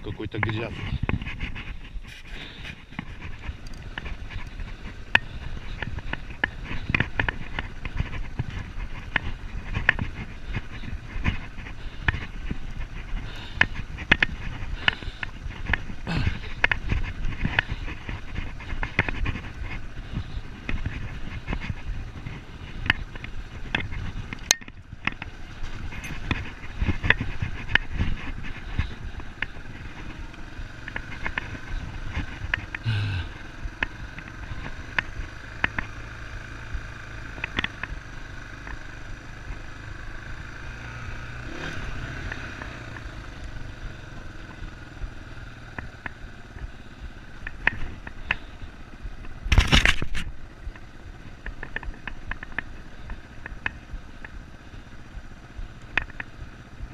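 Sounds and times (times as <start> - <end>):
knocks and rattles of bike: 0.0 - 56.9
motorcycle engine running: 0.0 - 56.9.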